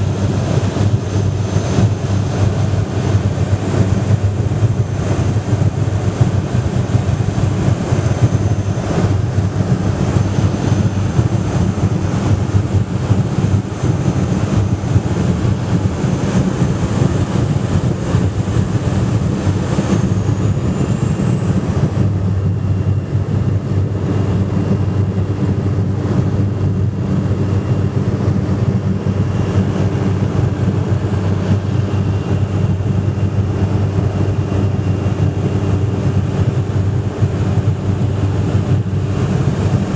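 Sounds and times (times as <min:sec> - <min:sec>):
plane engine and propeller drone: 0:00.0 - 0:39.9.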